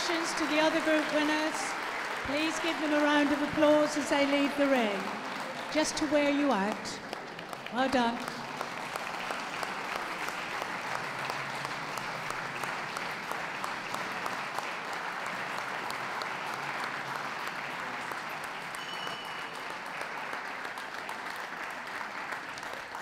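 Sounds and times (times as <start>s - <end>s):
crowd applauding: 0.0s - 23.0s.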